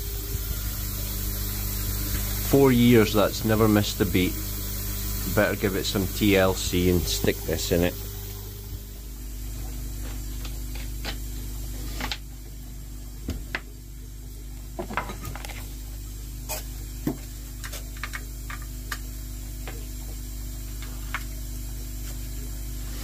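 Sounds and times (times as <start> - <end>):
low electric hum: 0.0 - 23.0.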